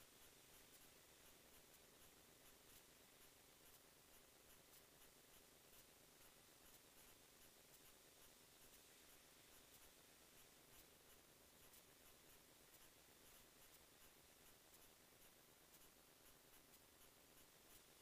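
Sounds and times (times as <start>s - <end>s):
faint steady hiss: 0.0s - 18.0s
faint ticks: 0.0s - 18.0s.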